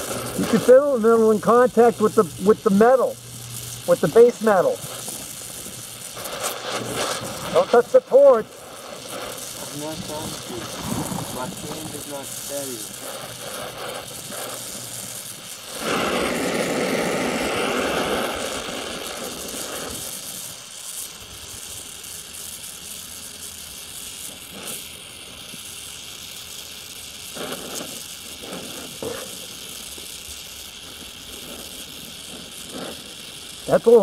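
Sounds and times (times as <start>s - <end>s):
welding torch flame hissing: 0.0s - 34.0s.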